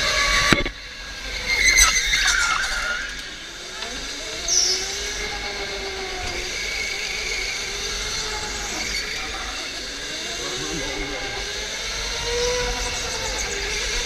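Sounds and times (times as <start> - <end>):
electric go-kart motor whining: 0.0 - 14.0
high squeal: 1.2 - 14.0.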